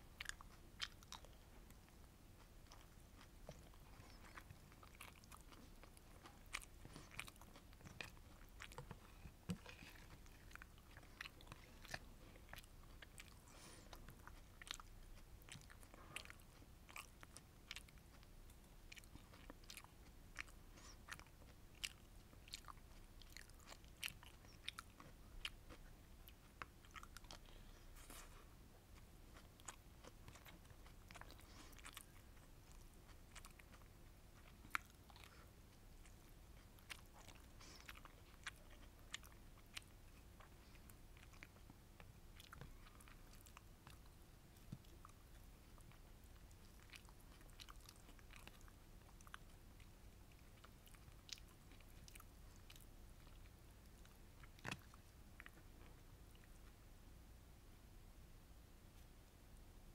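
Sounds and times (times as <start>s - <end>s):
close chewing: 0.0s - 56.9s.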